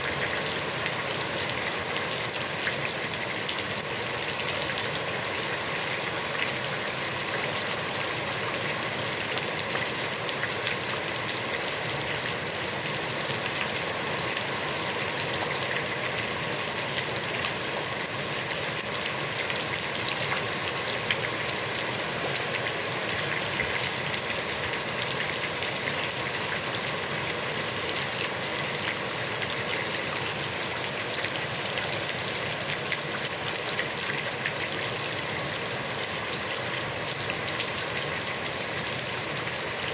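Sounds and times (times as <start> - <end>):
heavy rain on pond water: 0.0 - 39.9.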